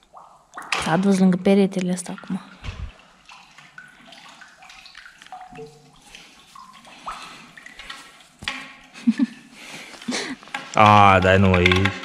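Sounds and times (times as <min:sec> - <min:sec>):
water dripping plinks: 0:00.0 - 0:09.5, 0:10.4 - 0:12.0.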